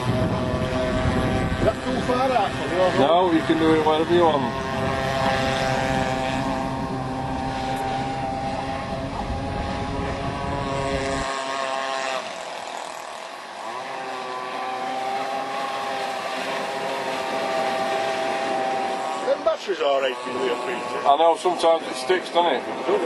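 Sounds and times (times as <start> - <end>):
model boat motor drone: 0.0 - 23.0.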